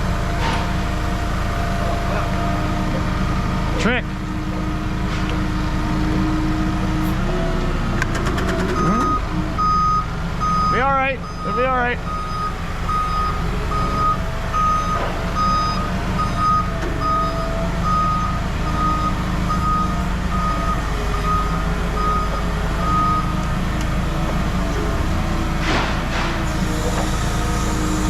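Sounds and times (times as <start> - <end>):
vehicle backup alarm beeping: 0.0 - 7.8, 8.4 - 28.0
heavy vehicle engine running: 0.0 - 28.0.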